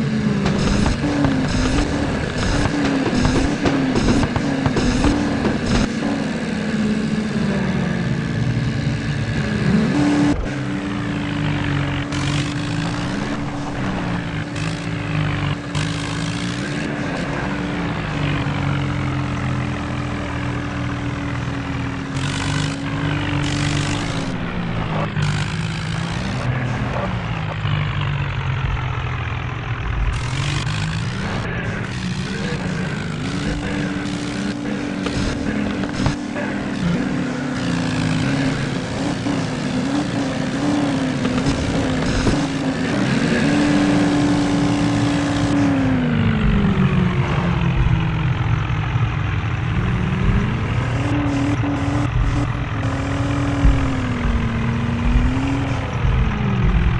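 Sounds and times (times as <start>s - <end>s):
tractor engines labouring: 0.0s - 56.9s.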